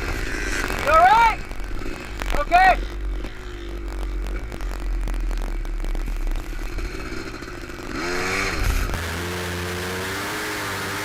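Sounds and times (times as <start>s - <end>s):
atv engine revving: 0.0s - 11.0s
engine drone with hiss: 0.0s - 11.0s.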